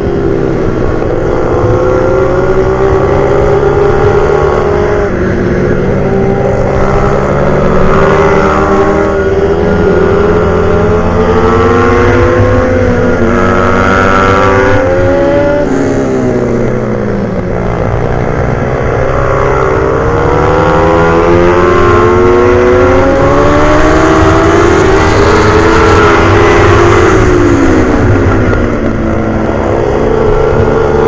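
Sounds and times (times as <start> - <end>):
pit bike engine at full throttle: 0.0 - 31.0.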